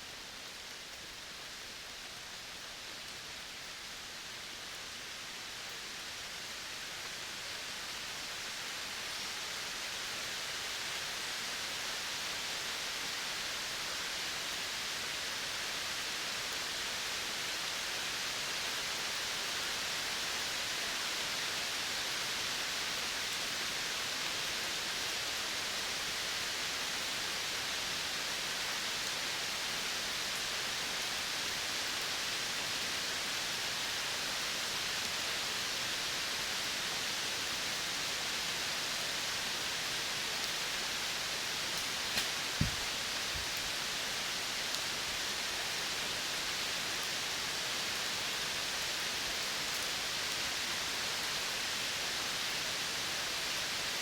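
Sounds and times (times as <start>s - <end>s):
outdoor ambient hiss: 0.0s - 54.0s.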